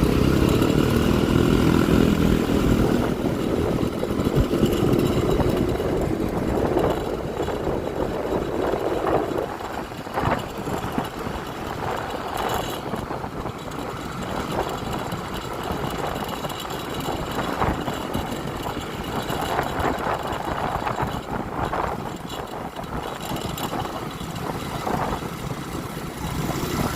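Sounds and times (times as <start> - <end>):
scooter engine running: 0.0 - 26.9
traffic noise: 0.0 - 26.9.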